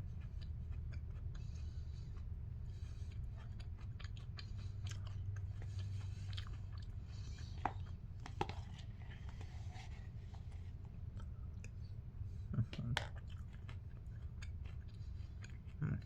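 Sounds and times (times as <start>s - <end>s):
person chewing crunchy cereal: 0.0s - 11.8s, 12.7s - 16.0s.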